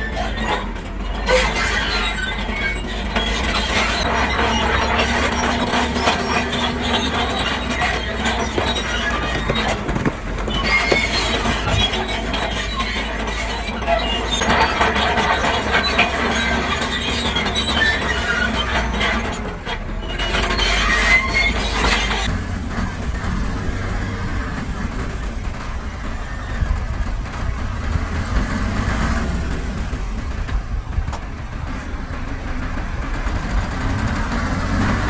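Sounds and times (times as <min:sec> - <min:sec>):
metal squealing and clanking: 0:00.0 - 0:31.3, 0:32.8 - 0:35.0
heavy machinery engine rumble: 0:00.0 - 0:35.0.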